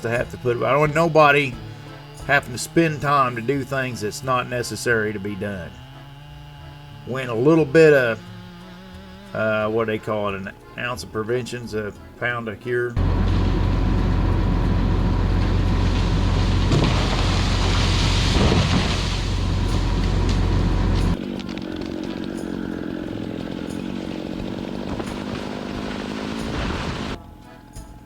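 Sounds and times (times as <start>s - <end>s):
chainsaw cutting tree: 0.0s - 11.4s, 13.0s - 27.2s.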